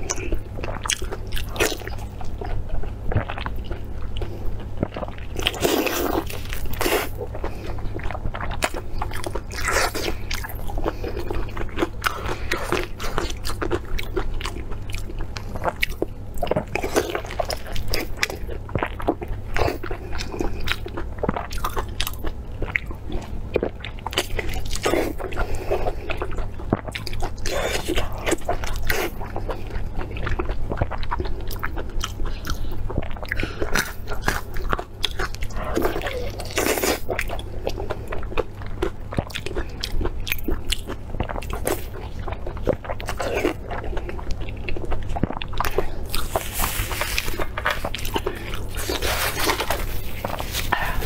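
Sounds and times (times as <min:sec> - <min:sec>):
person chewing meat: 0:00.0 - 0:51.0.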